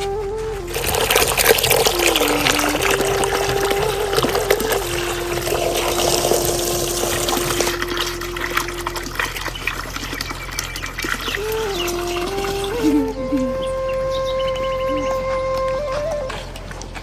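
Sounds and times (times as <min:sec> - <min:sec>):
held musical note: 0:00.0 - 0:17.0
rainwater splashing and dripping: 0:00.0 - 0:17.0.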